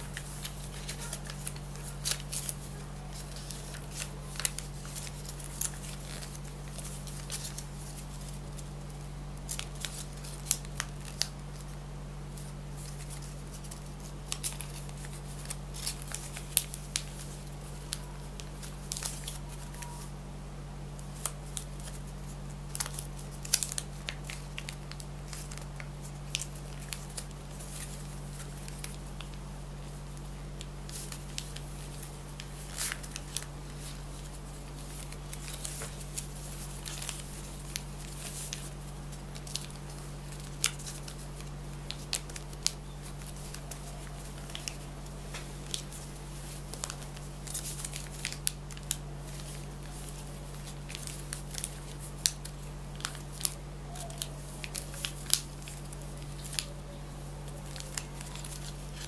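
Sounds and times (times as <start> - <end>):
paper crackling and rustling: 0.0 - 20.1, 21.0 - 59.0
low electrical hum: 0.0 - 59.0.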